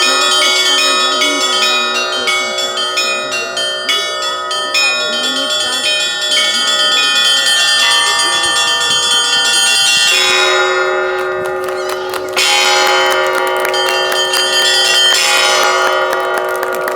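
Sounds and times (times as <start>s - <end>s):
large bells ringing: 0.0s - 16.9s
small high bells ringing: 0.0s - 16.9s.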